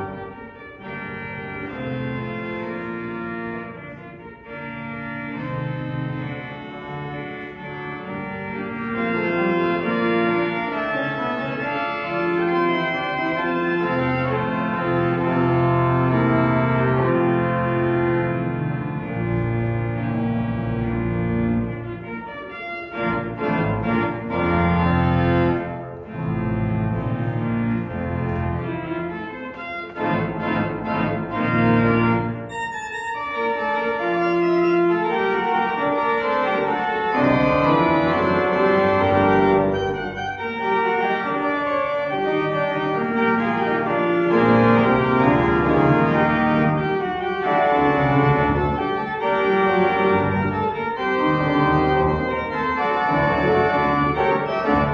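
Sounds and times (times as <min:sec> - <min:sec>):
church organ chords: 0:00.0 - 0:54.9.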